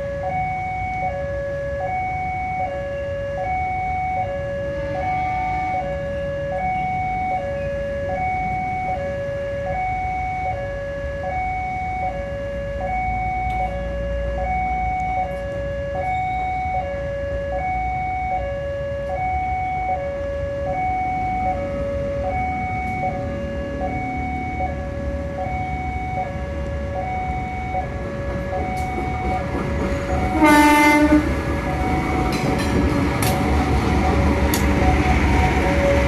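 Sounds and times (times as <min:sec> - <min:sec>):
level crossing two-tone alarm: 0:00.0 - 0:29.5.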